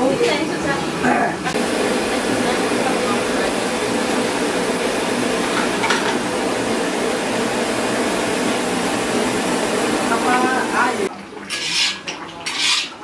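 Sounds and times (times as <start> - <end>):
gas burner hissing: 0.2 - 11.1.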